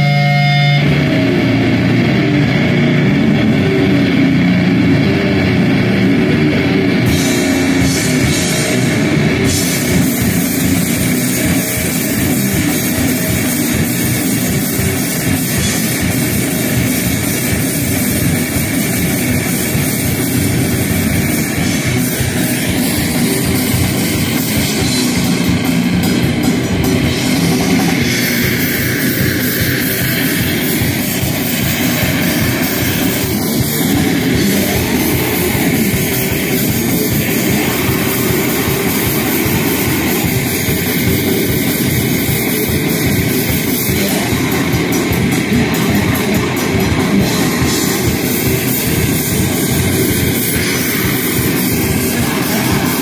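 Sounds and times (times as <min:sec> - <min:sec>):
distorted electric guitar: 0:00.0 - 0:53.0
fast dense drumming: 0:00.0 - 0:53.0
cymbals washing: 0:06.9 - 0:53.0.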